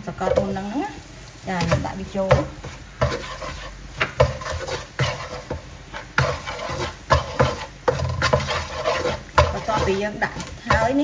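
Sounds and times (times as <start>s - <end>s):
sauce sizzling: 0.0s - 11.0s
spatula scraping a wok: 0.1s - 11.0s.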